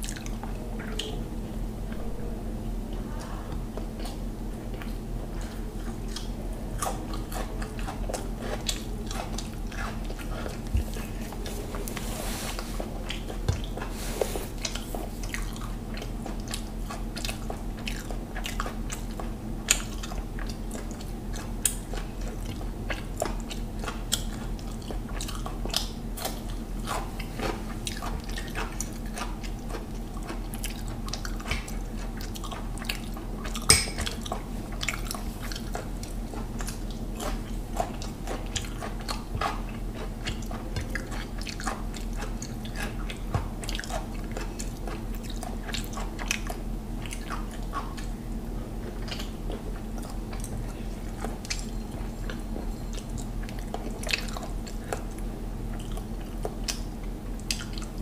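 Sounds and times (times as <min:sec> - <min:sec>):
person chewing food: 0:00.0 - 0:01.2, 0:02.8 - 0:58.0.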